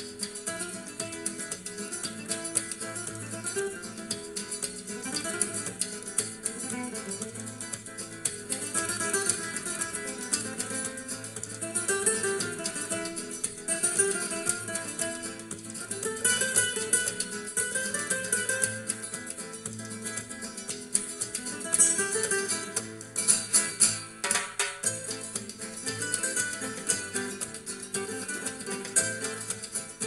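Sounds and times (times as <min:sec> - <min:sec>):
plucked acoustic guitar music: 0:00.0 - 0:30.0.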